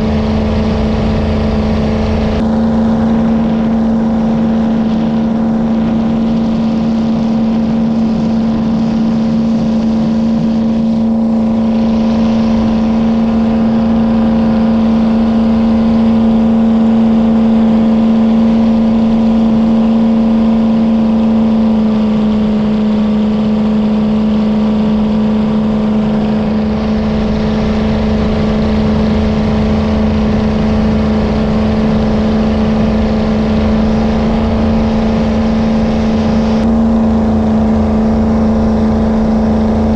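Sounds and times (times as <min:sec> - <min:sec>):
jet boat engine running: 0:00.0 - 0:39.9.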